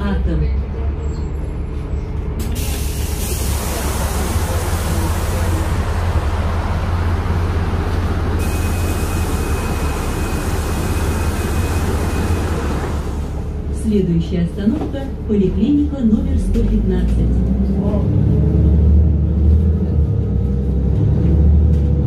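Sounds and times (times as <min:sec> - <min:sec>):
bus engine drone: 0:00.0 - 0:22.0
road and tyre rush: 0:00.0 - 0:22.0.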